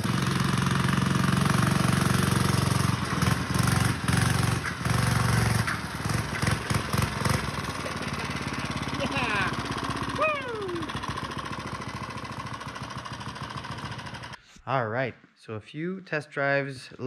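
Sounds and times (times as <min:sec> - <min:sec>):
snowmobile engine at high revs: 0:00.0 - 0:14.4.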